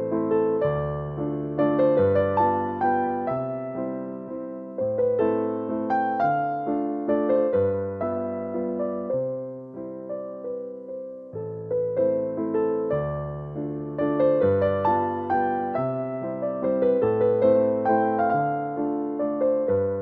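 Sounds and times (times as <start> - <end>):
gentle electric piano music: 0.0 - 20.0.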